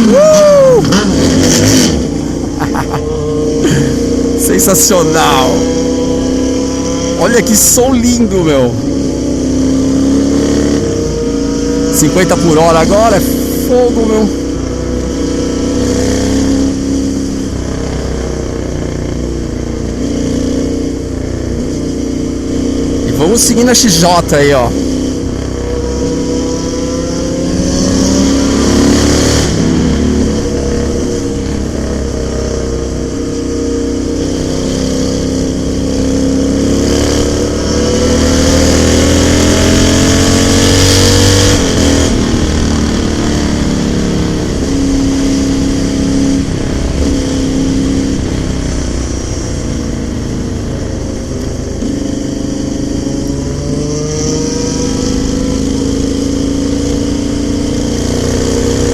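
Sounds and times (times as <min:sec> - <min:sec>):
motorcycle engines revving: 0:00.0 - 0:58.9.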